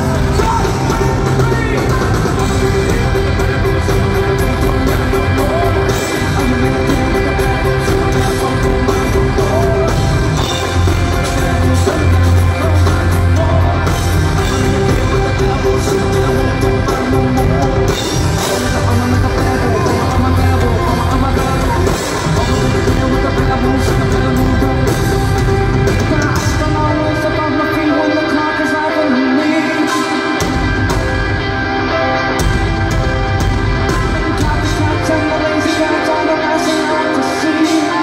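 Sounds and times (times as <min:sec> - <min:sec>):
live rock band with singing: 0:00.0 - 0:38.0.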